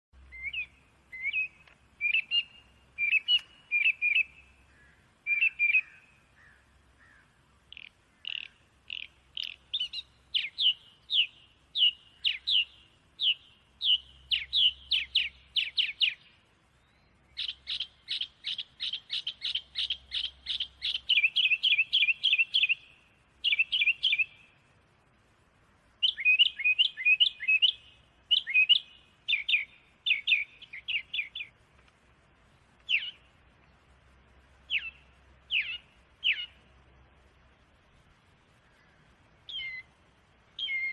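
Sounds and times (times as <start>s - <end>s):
small songbird chirping: 0.2s - 40.9s.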